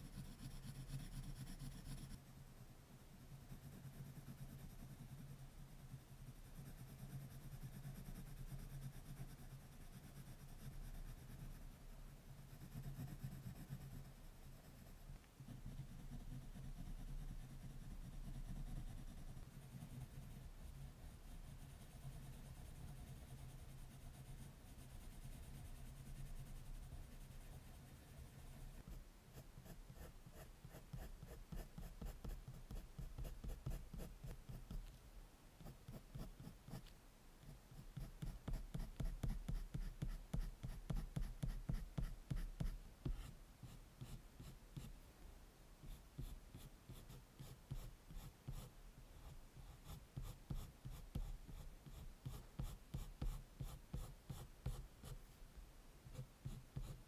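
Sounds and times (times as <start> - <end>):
colored pencil scratching on paper: 0.0 - 2.2, 3.4 - 35.0, 35.6 - 44.9, 45.8 - 55.2, 56.1 - 57.0.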